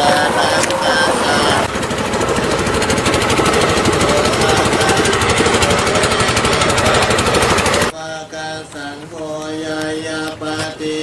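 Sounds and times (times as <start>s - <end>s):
boat engine pulsing: 0.0s - 11.0s
voices chanting: 0.0s - 11.0s.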